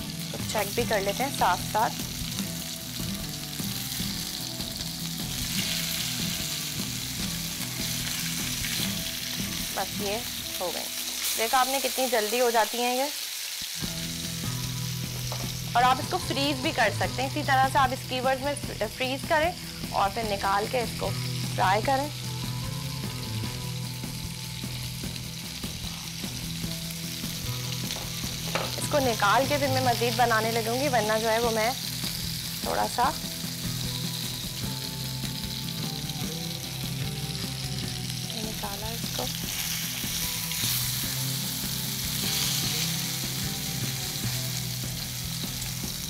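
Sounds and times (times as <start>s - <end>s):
kebabs sizzling in oil: 0.0s - 46.0s.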